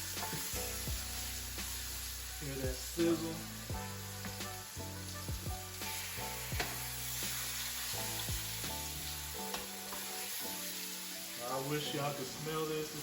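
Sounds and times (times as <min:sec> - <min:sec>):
background music with beat: 0:00.0 - 0:13.0
chicken sizzling in oil: 0:00.0 - 0:13.0.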